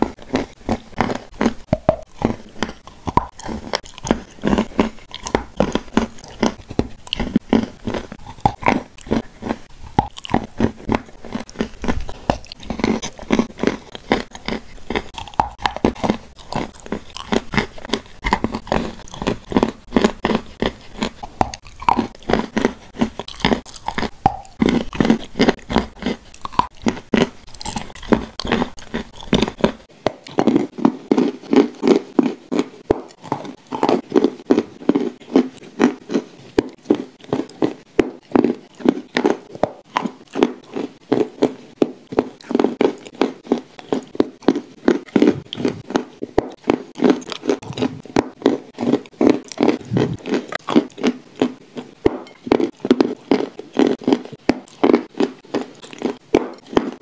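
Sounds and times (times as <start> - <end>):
chewing cookie: 0.0 - 57.0.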